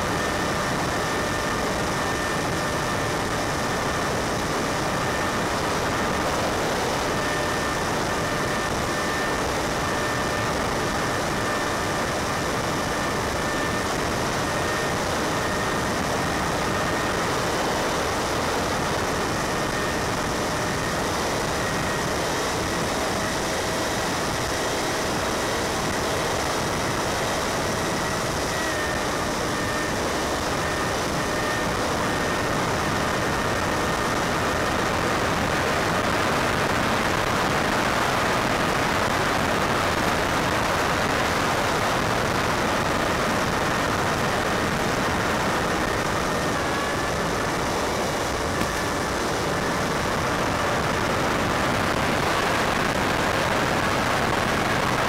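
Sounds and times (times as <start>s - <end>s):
electric motor and propeller whine: 0.0s - 55.0s
wind noise: 0.0s - 55.0s.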